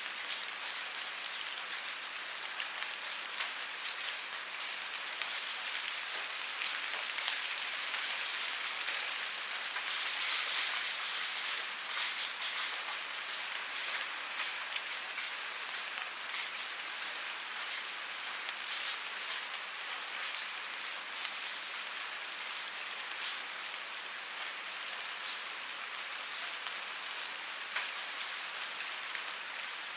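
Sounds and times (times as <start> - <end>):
rain falling: 0.0 - 29.9.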